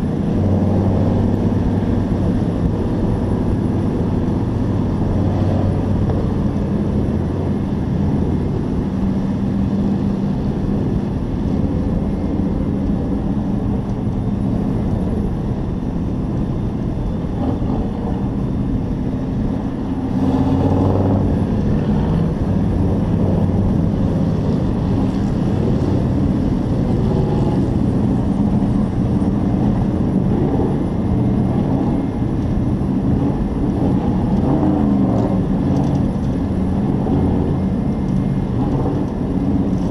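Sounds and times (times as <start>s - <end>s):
race truck engine running hard: 0.0s - 39.9s.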